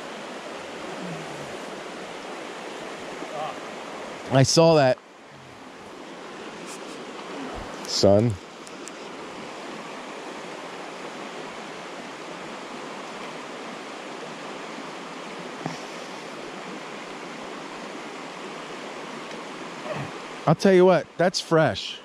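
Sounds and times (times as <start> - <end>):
creek water rushing over stones: 0.0 - 22.0.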